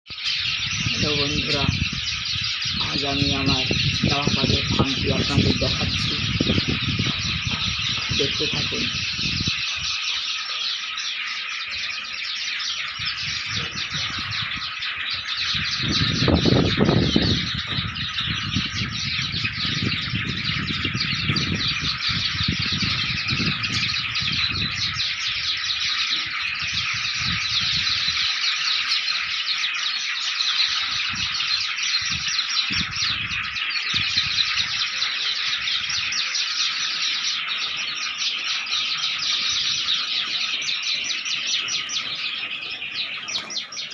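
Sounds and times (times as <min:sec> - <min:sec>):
sparrows chirping: 0:00.1 - 0:43.9.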